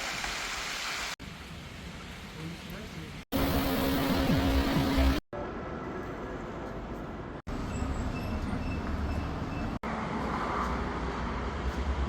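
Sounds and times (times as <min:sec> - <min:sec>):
traffic rumble: 0:01.2 - 0:12.0.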